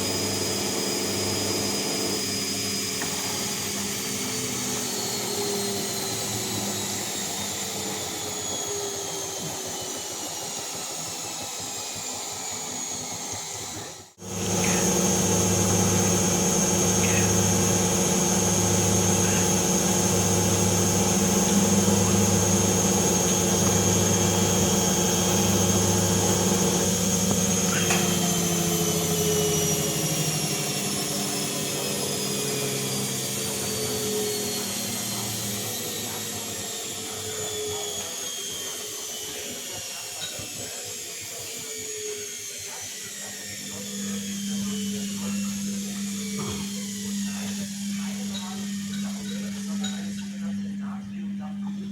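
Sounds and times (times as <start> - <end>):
washing machine motor hum: 0.0 - 40.0, 40.7 - 51.9.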